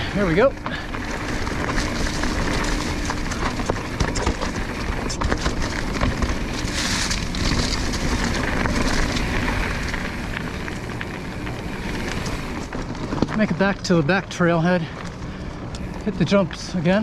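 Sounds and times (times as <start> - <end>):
bike rattling and clicking: 0.0 - 17.0
bike tyres rolling on dirt: 0.0 - 17.0.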